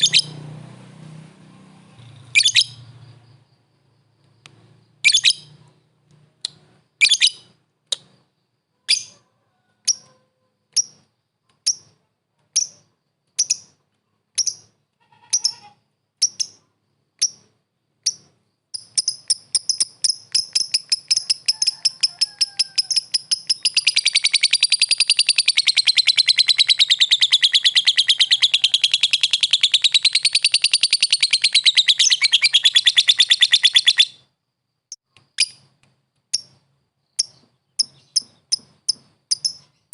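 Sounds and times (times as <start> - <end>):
lovebird chirping and chattering: 0.0 - 0.4, 2.0 - 3.5, 4.8 - 5.8, 6.4 - 9.2, 9.8 - 34.3, 34.9 - 39.9.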